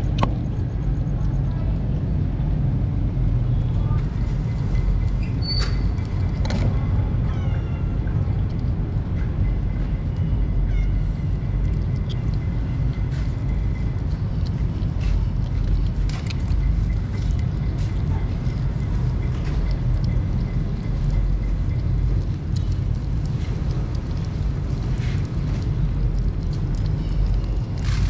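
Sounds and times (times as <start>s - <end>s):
kittens chewing and lapping food: 0.0s - 3.0s, 3.8s - 28.0s
low rumble: 0.0s - 28.0s.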